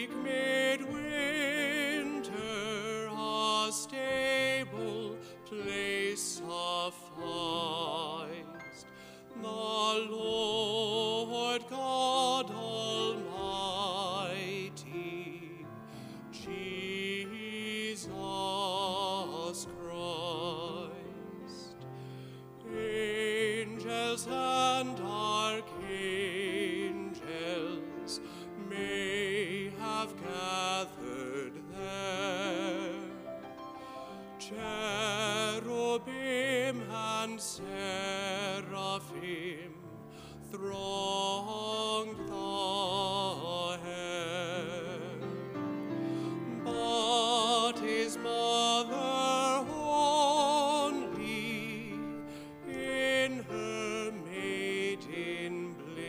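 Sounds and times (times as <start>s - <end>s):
person singing with vibrato: 0.0s - 56.0s.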